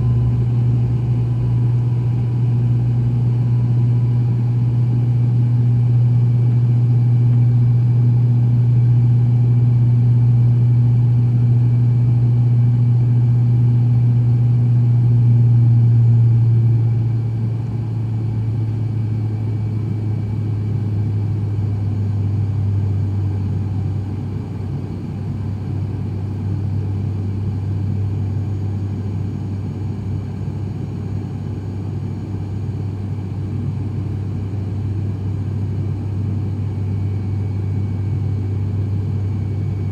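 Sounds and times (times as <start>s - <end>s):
turboprop cabin drone: 0.0s - 39.9s.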